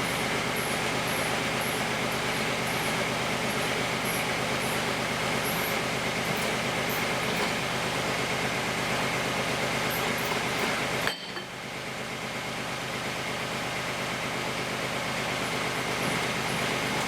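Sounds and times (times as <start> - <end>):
backhoe engine running: 0.0 - 17.0.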